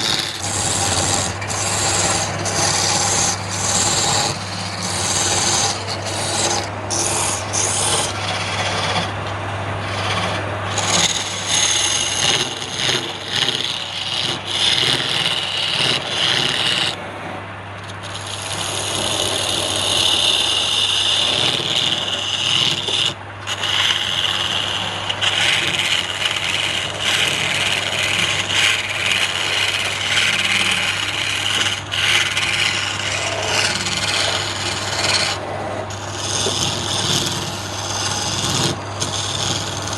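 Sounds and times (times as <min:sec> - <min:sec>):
cutting tool scraping wood: 0:00.0 - 0:39.9
wood lathe motor hum: 0:00.0 - 0:39.9.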